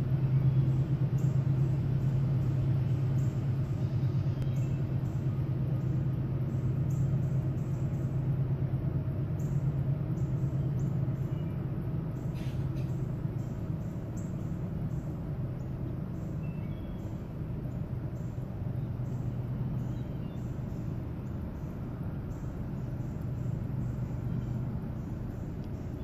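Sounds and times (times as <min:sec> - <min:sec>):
machinery rumbling and humming: 0:00.0 - 0:26.0.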